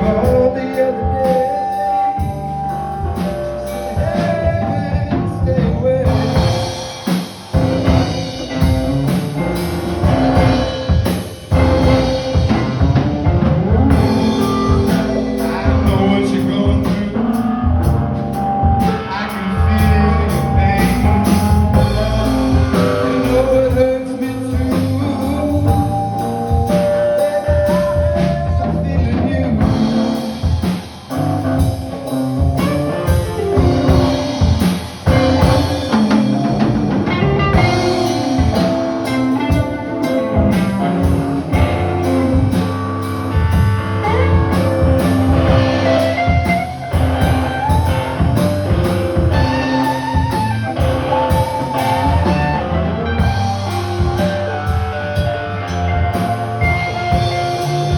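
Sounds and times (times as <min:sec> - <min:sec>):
blues-rock band playing: 0:00.0 - 0:57.9
drum kit beat: 0:00.0 - 0:57.9
electric guitar: 0:00.0 - 0:57.9
person singing: 0:00.0 - 0:57.9.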